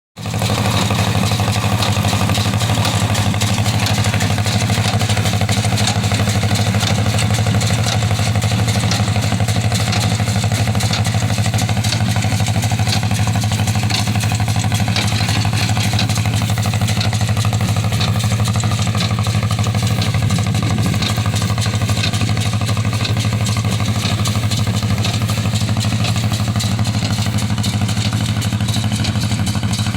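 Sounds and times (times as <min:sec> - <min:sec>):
hay baler clattering: 0:00.2 - 0:29.9
tractor engine running: 0:00.2 - 0:29.9.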